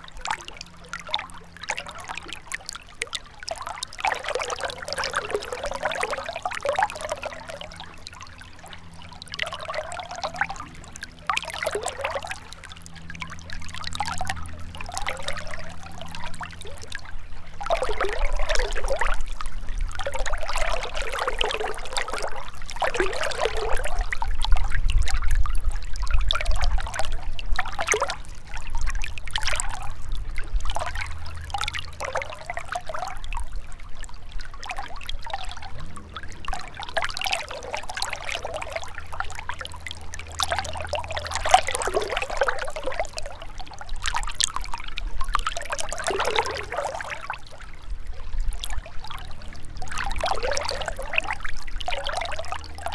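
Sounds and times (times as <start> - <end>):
river trickling over stones: 0.0 - 52.9
low rumble: 4.8 - 52.9.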